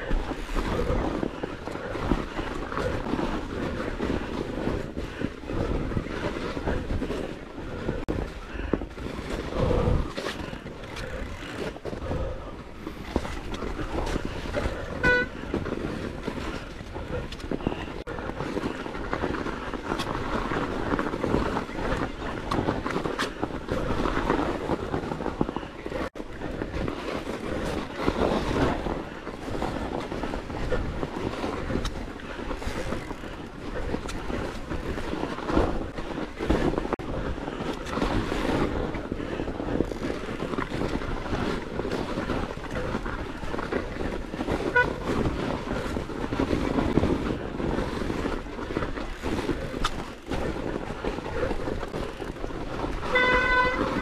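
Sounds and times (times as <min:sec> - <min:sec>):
bike rattling and knocking: 0:00.0 - 0:54.0
tyres crunching through snow: 0:00.0 - 0:54.0
wind on microphone: 0:00.0 - 0:54.0.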